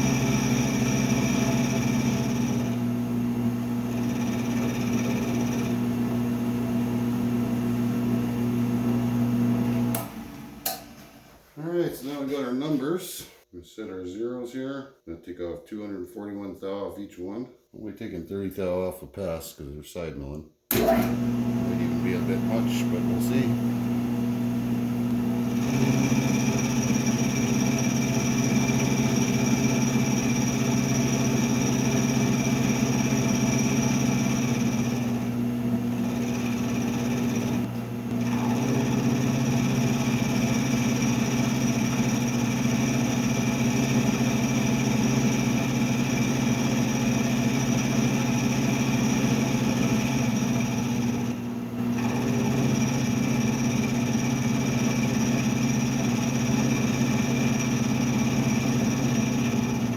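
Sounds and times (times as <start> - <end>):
milling machine humming and whining: 0.0 - 10.8, 20.7 - 59.9.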